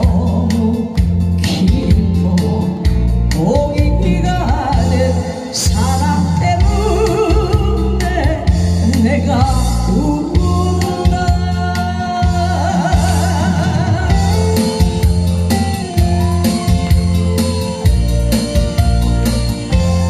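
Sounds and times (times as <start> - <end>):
bass and drum beat: 0.0 - 20.0
person singing with vibrato: 0.0 - 20.0.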